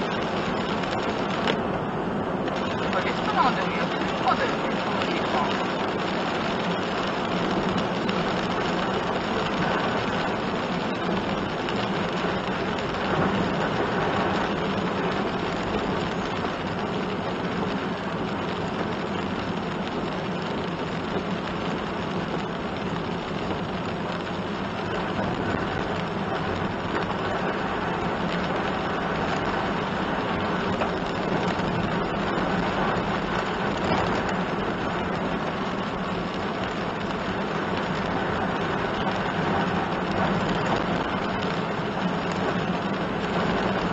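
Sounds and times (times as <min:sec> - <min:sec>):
rain on car: 0:00.0 - 0:43.9
tyres hissing on wet road: 0:00.0 - 0:43.9.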